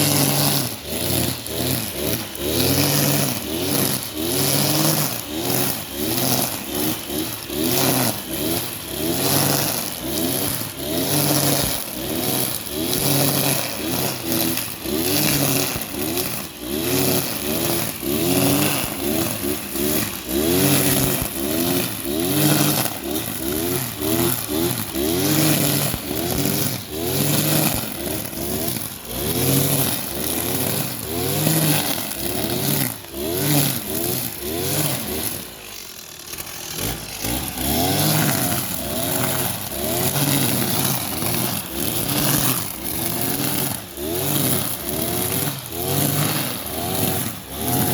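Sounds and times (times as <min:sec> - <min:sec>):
brush cutter engine revving: 0:00.0 - 0:47.9
trimmer line cutting grass: 0:00.0 - 0:47.9.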